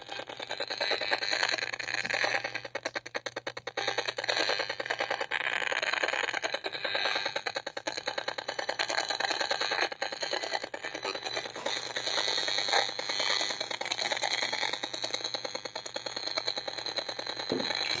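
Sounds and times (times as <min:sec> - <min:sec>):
crackling rattle of pulses: 0:00.0 - 0:18.0.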